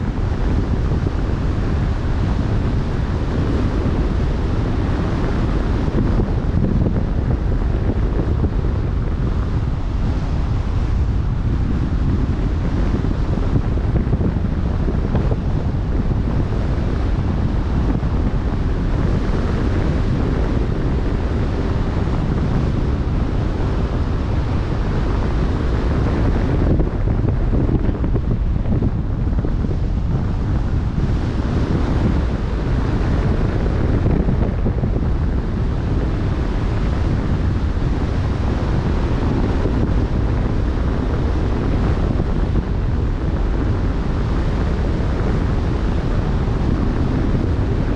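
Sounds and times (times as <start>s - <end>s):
open sea waves: 0.0s - 47.9s
wind buffeting microphone: 0.0s - 47.9s.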